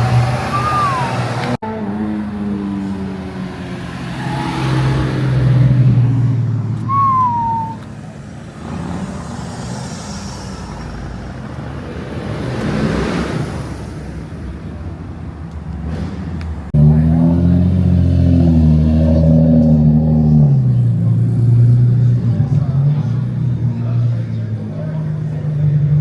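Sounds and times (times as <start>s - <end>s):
car passing by: 0.0s - 1.6s, 2.2s - 26.0s
car engine running close by: 0.0s - 26.0s.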